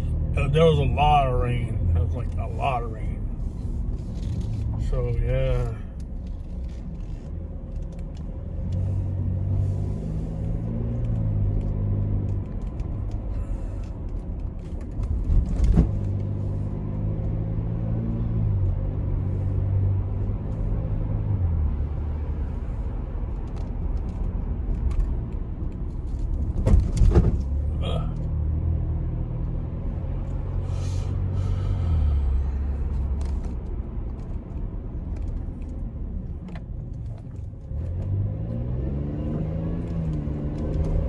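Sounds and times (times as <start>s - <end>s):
car engine hum: 0.0s - 41.0s
road rumble inside car: 0.0s - 41.0s.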